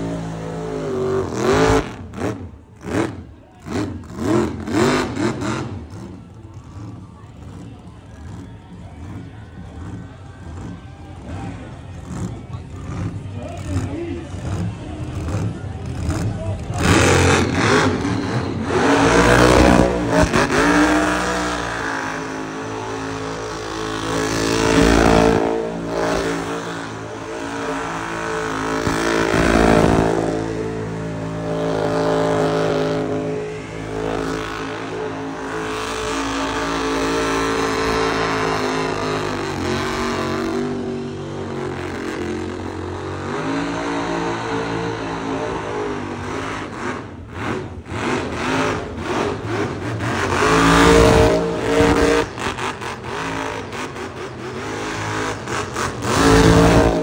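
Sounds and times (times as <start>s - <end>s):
truck engine revving high: 0.0s - 57.0s.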